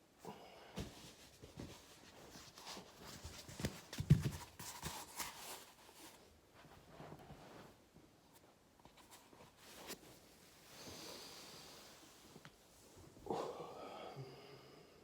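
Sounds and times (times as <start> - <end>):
clothing rustling on foam roller: 0.8 - 13.2.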